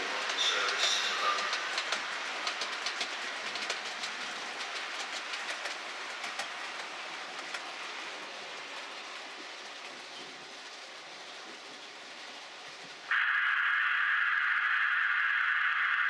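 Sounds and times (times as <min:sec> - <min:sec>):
model train wheels clicking: 0:00.0 - 0:13.1
model train rumbling: 0:00.0 - 0:13.2.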